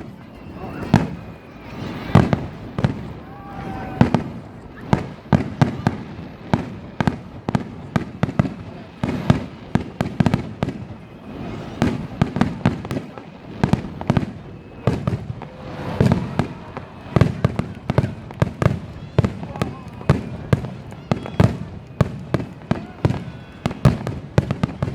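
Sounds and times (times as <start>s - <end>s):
fireworks bursting: 0.0s - 24.9s.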